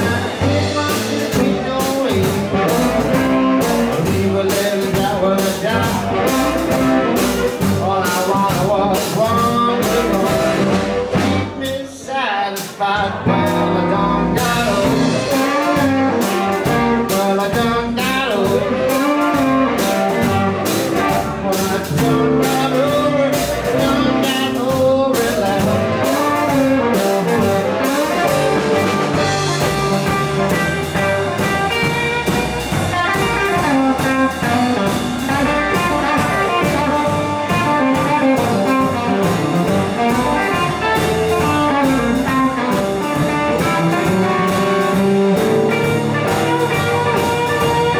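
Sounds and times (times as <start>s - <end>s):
drums: 0.0s - 47.9s
electric guitar: 0.0s - 47.9s
person singing: 0.0s - 47.9s
upright double bass: 0.0s - 47.9s.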